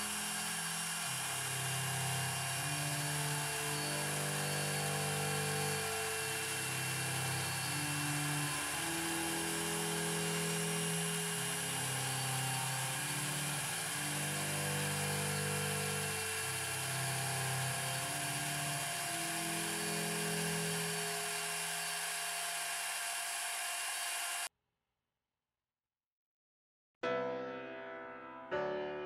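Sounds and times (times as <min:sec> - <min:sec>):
trim router whining: 0:00.0 - 0:24.5.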